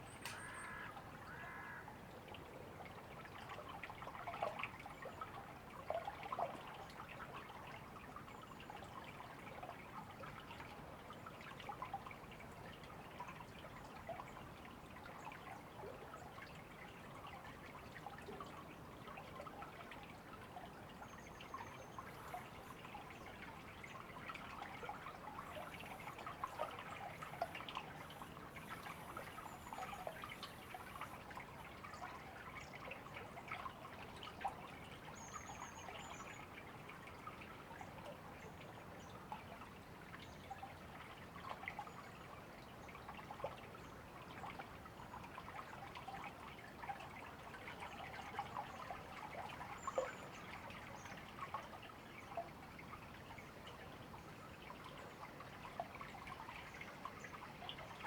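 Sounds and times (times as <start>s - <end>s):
shallow river babbling: 0.0s - 58.0s.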